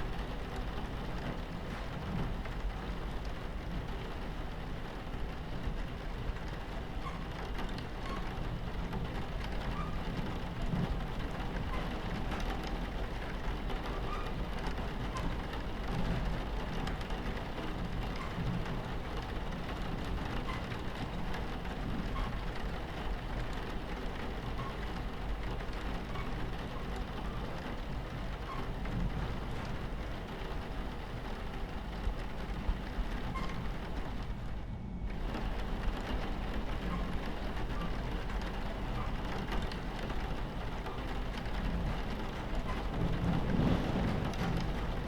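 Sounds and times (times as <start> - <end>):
rain against train window: 0.0 - 45.0
train rumbling on tracks: 0.0 - 45.0.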